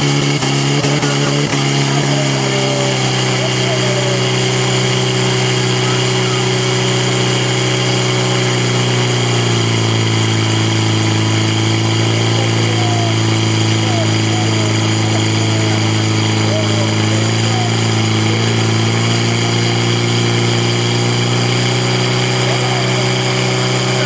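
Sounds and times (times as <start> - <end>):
fire pump engine running: 0.0 - 24.0.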